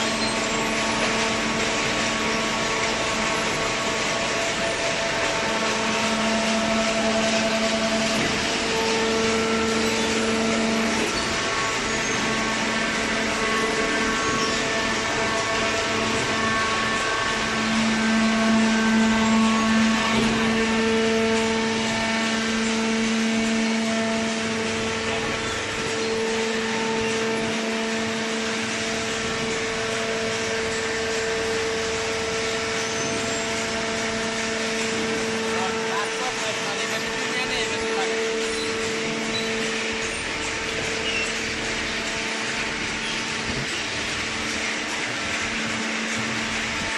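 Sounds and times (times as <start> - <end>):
hydraulic baler motor humming: 0.0 - 46.9.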